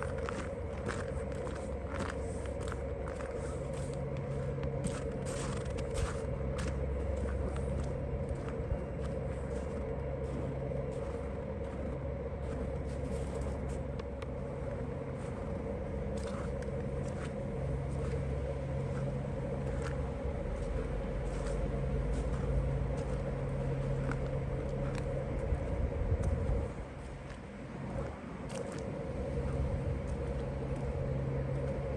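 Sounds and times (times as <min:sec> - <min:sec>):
low mechanical drone: 0:00.0 - 0:31.9.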